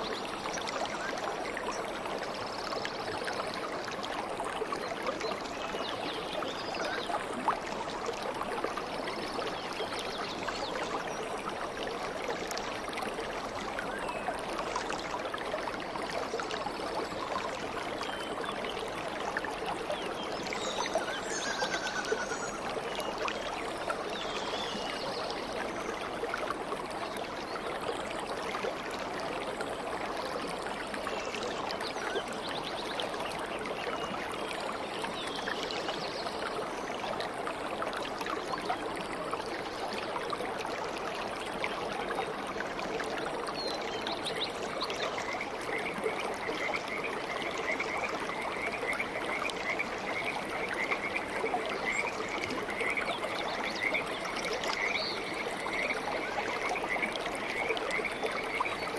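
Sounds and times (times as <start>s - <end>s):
stream water babbling: 0.0s - 58.9s.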